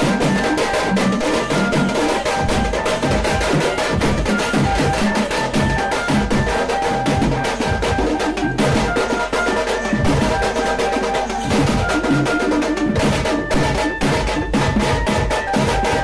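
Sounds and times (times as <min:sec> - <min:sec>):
music with dense drum beat: 0:00.0 - 0:16.0.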